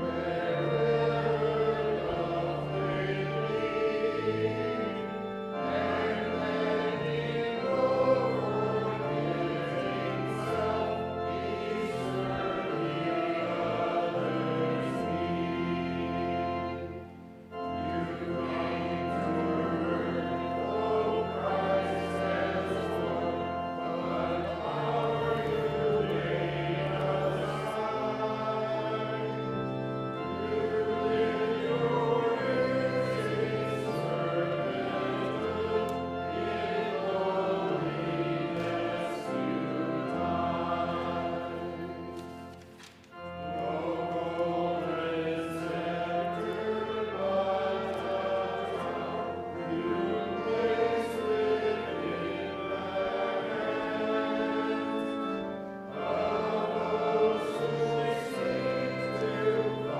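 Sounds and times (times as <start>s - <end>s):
organ bass notes: 0.0s - 42.2s, 43.1s - 59.9s
congregation singing a hymn: 0.0s - 59.9s.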